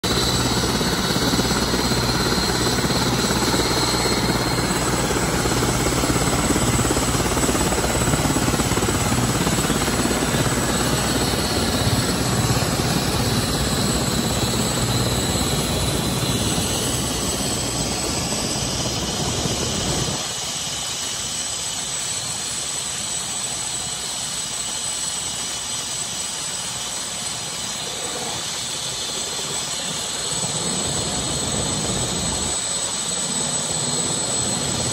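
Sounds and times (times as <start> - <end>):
turbine engine rush with whine: 0.0 - 34.9.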